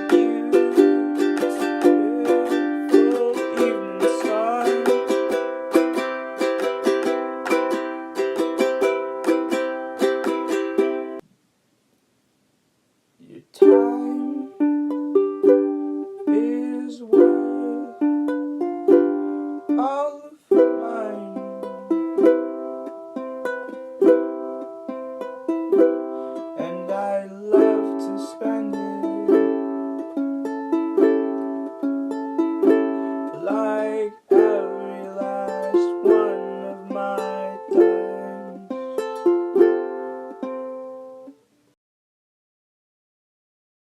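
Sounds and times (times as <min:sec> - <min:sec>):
ukulele strumming chords: 0:00.0 - 0:11.2, 0:13.4 - 0:41.5.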